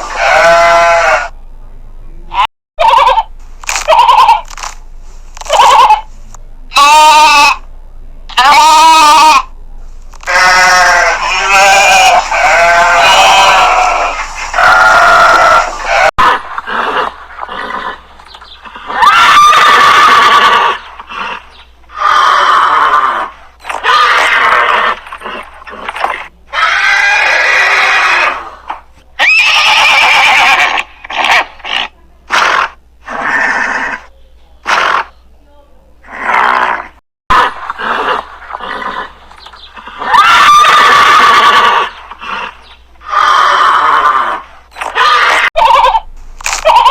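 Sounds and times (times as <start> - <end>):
farm animal calling: 0.0 - 1.3, 2.3 - 4.6, 5.4 - 6.1, 6.7 - 7.6, 8.3 - 9.5, 10.2 - 35.3, 36.0 - 46.9.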